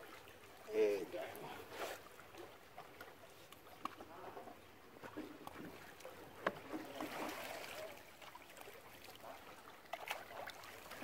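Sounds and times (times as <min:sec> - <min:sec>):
water lapping against wall: 0:00.0 - 0:11.0.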